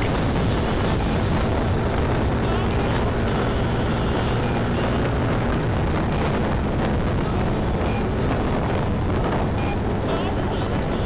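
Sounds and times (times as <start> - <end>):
wind rumbling over microphone: 0.0 - 11.0.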